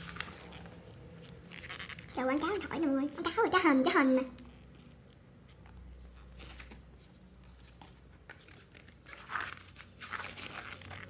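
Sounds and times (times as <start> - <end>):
pages rustling: 0.0 - 2.5, 4.5 - 11.0.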